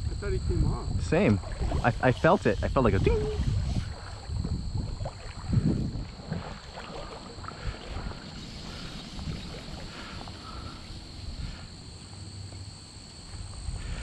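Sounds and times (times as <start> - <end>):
wind rumble: 0.0 - 12.0
high-pitched insect trill: 0.0 - 14.0.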